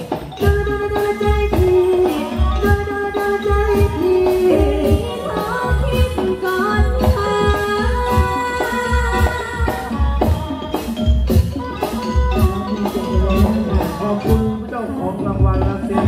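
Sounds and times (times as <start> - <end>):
amplified band music: 0.0 - 16.0
woman singing into a microphone: 0.3 - 14.9.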